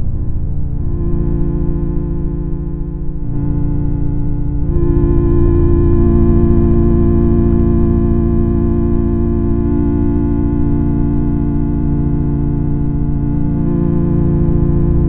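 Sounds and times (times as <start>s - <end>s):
organ-like electronic drone: 0.0s - 15.0s.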